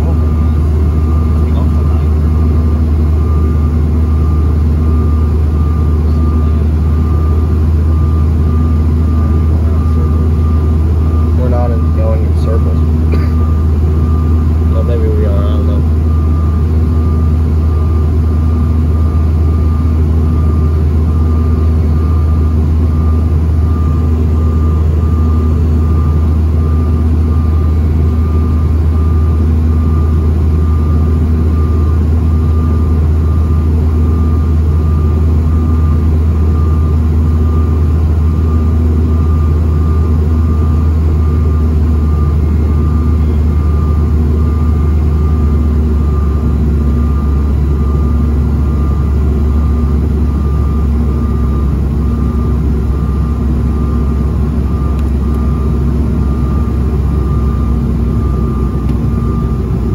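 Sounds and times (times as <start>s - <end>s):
airplane cabin drone: 0.0s - 59.9s
steady engine whine: 0.0s - 59.9s.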